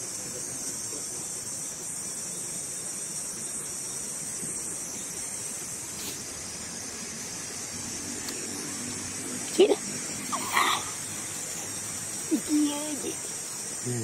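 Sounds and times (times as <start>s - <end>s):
high-pitched forest hiss: 0.0s - 14.0s.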